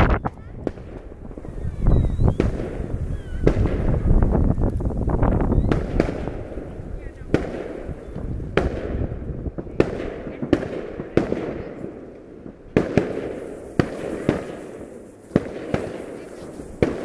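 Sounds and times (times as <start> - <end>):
crackling rumble: 0.0 - 17.0
fireworks bangs: 0.0 - 17.0.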